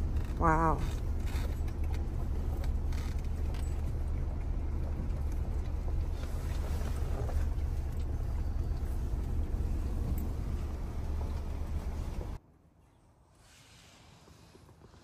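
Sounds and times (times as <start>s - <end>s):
vehicle driving slowly: 0.0s - 15.0s.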